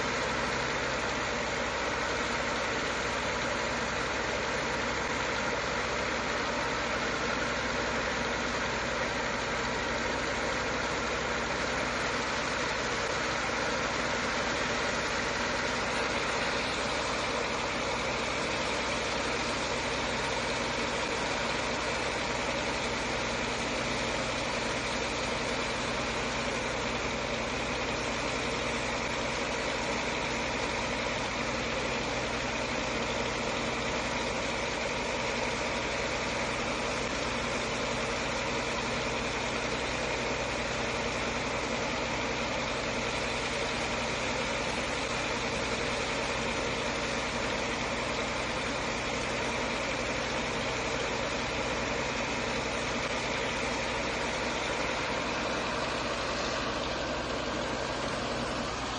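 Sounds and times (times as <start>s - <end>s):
pump engine droning: 0.0s - 58.9s.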